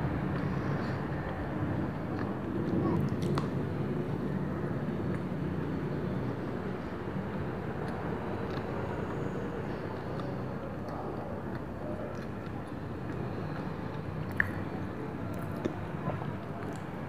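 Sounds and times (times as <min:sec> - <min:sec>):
chewing soft sandwich: 0:00.2 - 0:03.6, 0:05.0 - 0:17.0.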